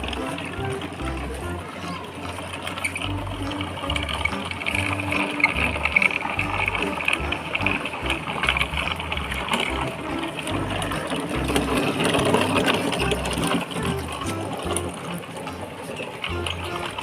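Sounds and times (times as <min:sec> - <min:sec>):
low pulsing background: 0:00.0 - 0:17.0.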